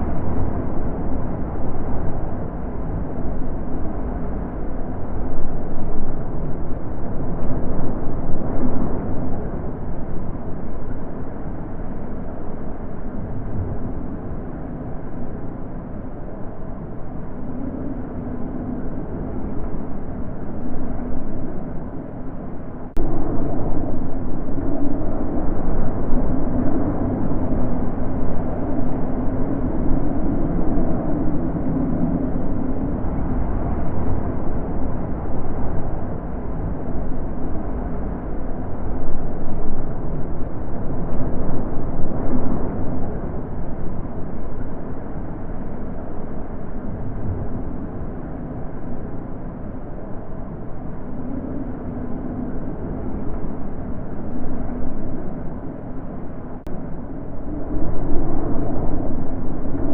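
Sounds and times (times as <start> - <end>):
wind blowing in gusts: 0.0 - 59.9.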